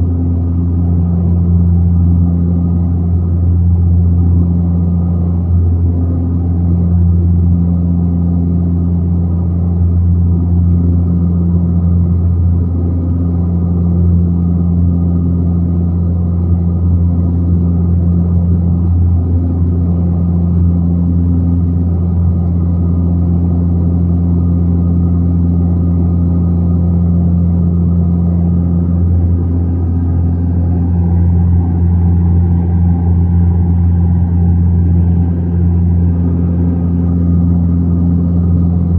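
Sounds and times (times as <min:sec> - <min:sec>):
aircraft engines droning: 0:00.0 - 0:38.9.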